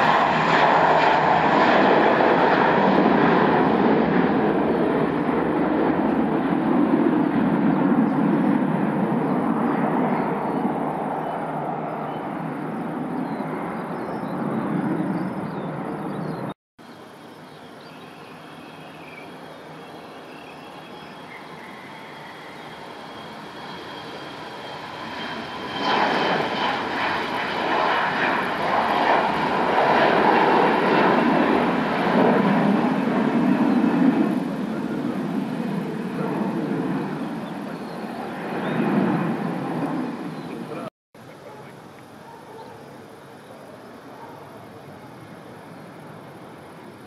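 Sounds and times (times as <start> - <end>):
jet takeoff roll roar: 0.0 - 16.5, 18.8 - 42.1, 42.9 - 47.0
faint high engine whine: 0.0 - 47.0
jet engine roar at takeoff: 0.0 - 47.0.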